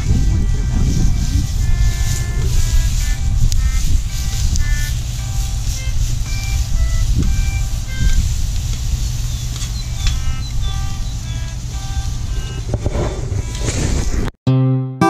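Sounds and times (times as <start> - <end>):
tune of high notes: 0.0 - 12.7.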